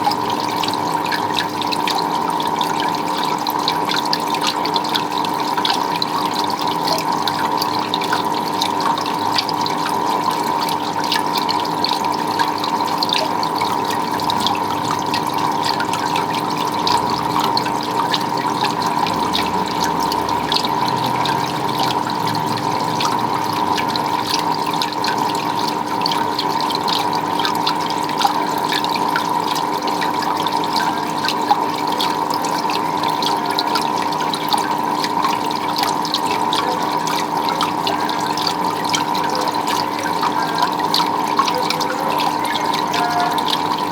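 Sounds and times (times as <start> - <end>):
water running and splashing: 0.0 - 43.9.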